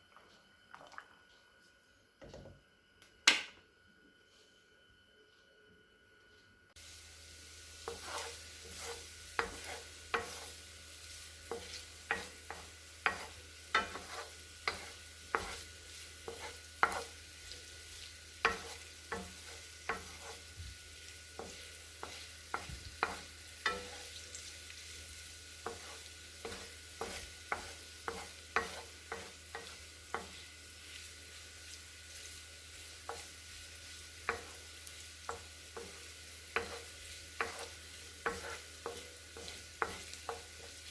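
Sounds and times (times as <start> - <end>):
food sizzling in a frying pan: 6.8 - 40.9.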